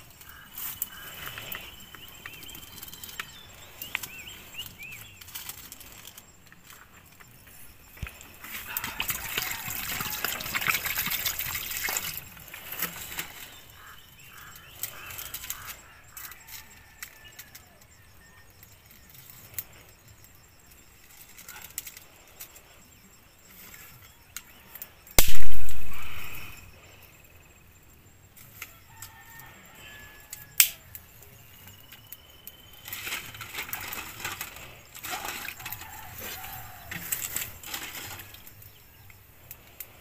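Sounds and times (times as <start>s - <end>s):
twigs cracking and snapping in fire: 0.0s - 18.0s, 18.6s - 22.9s, 23.5s - 26.5s, 28.4s - 29.4s, 30.1s - 40.0s.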